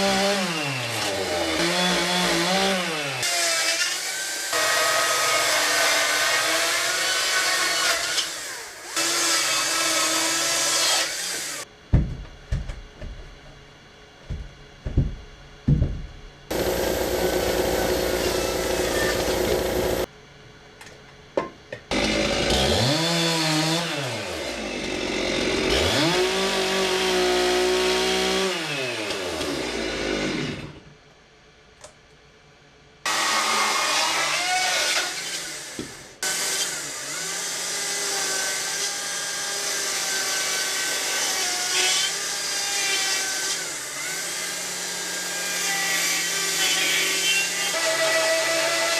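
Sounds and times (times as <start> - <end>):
chainsaw cutting wood: 0.0 - 11.7, 16.5 - 20.1, 21.9 - 30.8, 33.1 - 48.9.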